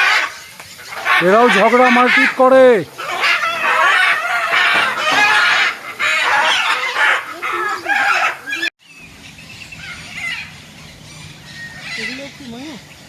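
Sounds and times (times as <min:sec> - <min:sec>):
birds squawking harshly: 0:00.0 - 0:13.0
quieter bird calls: 0:00.0 - 0:13.0.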